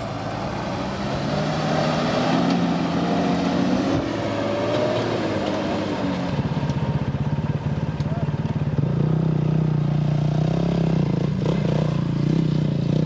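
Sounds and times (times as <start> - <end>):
truck diesel engine working: 0.0 - 13.0.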